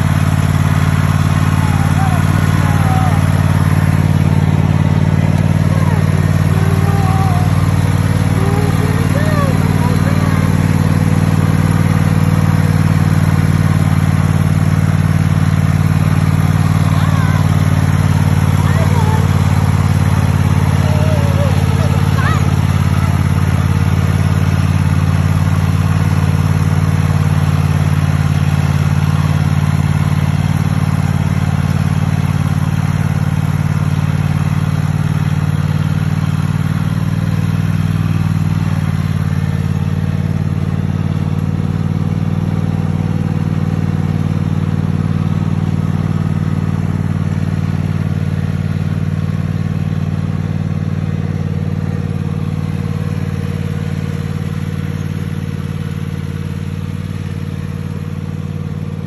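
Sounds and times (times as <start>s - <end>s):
riding mower engine humming: 0.0s - 59.0s.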